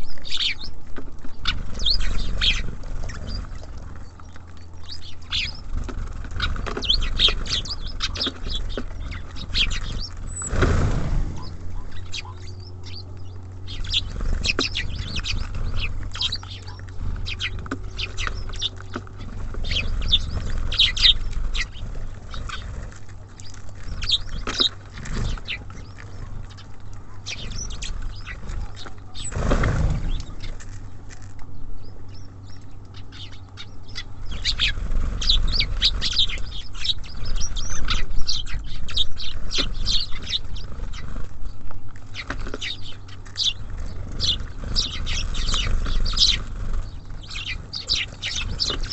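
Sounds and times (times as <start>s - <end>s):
low rumble: 0.0s - 48.9s
songbirds chirping: 0.0s - 48.9s.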